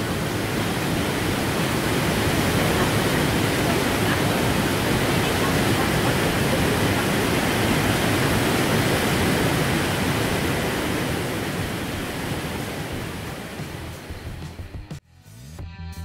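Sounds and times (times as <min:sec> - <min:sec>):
stream rushing over rocks: 0:00.0 - 0:14.4.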